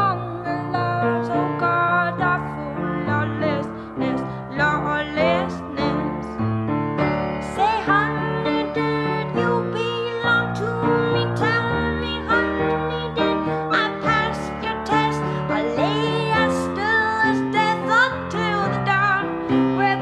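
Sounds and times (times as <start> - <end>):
song with piano and singing: 0.0 - 20.0.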